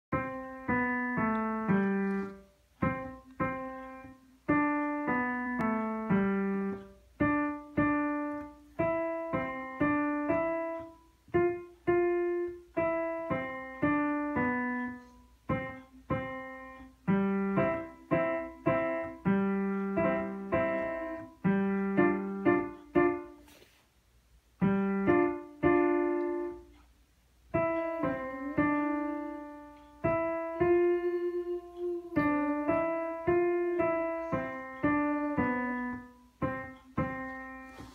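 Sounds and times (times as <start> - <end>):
digital piano melody: 0.1 - 23.5, 24.5 - 37.9.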